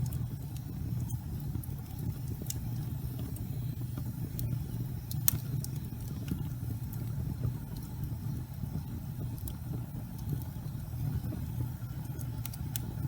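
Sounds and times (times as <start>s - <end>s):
fire pop: 0.0s - 13.0s
fire rumbling and crackling: 0.0s - 13.0s.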